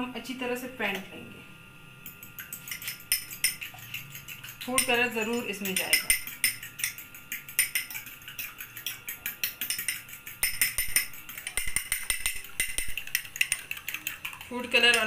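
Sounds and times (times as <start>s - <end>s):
spoon clinking in glass bowl: 2.1s - 15.0s.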